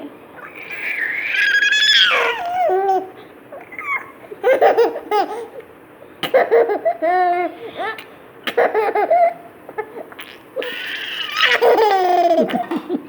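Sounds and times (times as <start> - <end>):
baby giggling: 0.4 - 5.6, 6.2 - 13.0
baby squealing: 0.4 - 5.6, 6.2 - 12.5.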